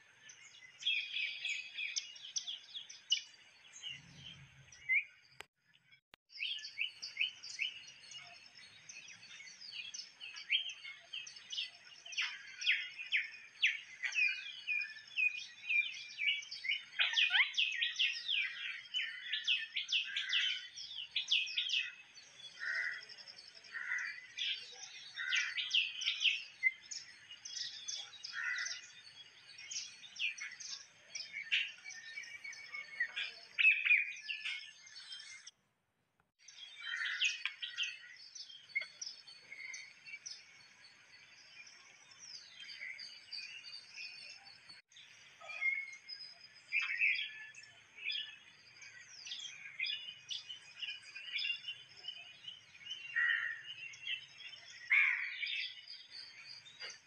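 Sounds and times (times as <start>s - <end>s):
small birds chirping: 0.0s - 35.6s, 36.2s - 57.0s.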